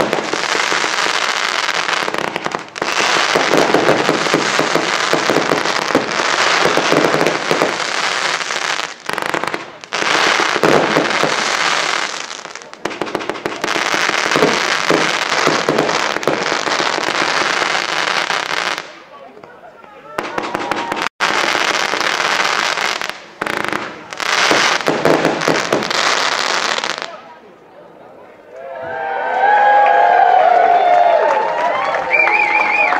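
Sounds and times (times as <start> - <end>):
fireworks crackling and banging: 0.0 - 27.4.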